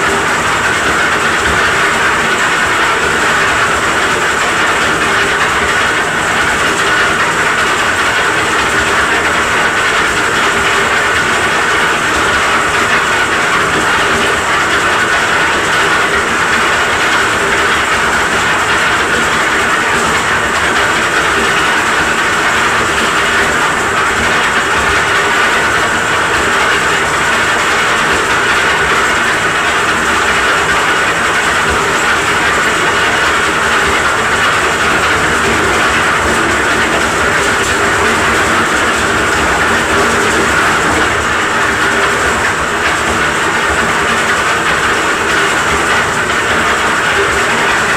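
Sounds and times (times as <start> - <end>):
cement mixer running: 0.0 - 47.9.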